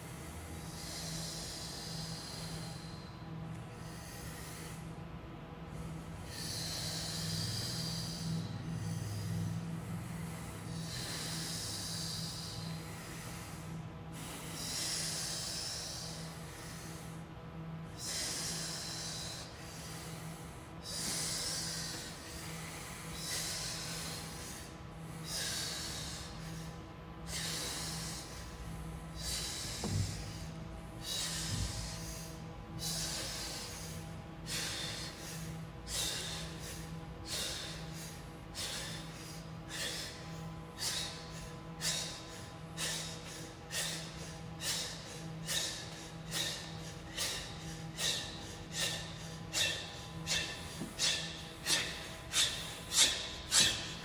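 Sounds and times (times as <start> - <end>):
faint steady hum: 0.0 - 54.0
people breathing loudly: 0.0 - 54.0.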